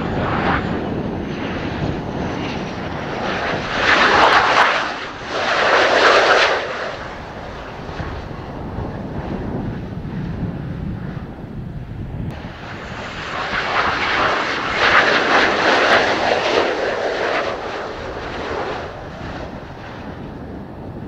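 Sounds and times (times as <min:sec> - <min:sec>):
jet engines passing: 0:00.0 - 0:21.0
wind buffeting microphone: 0:00.0 - 0:21.0.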